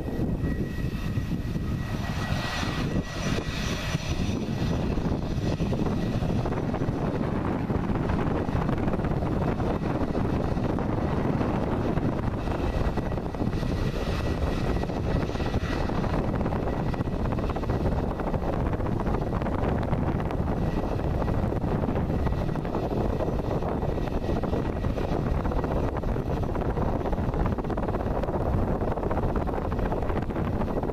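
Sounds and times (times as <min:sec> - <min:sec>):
jet engines rumbling with whine: 0:00.0 - 0:30.9
wind buffeting microphone: 0:00.0 - 0:30.9.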